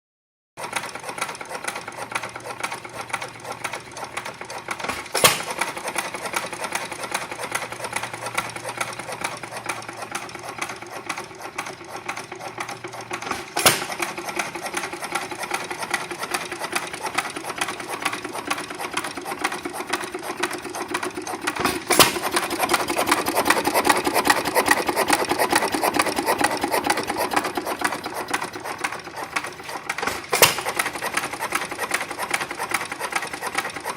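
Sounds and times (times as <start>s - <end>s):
gas engine mechanical clatter: 0.6s - 33.9s.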